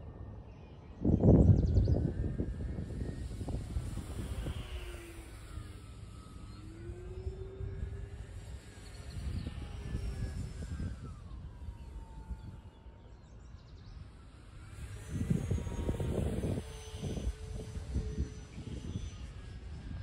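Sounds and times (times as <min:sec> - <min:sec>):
model airplane motor whine: 0:00.0 - 0:20.0
wind buffeting microphone: 0:00.9 - 0:13.0, 0:14.0 - 0:20.0.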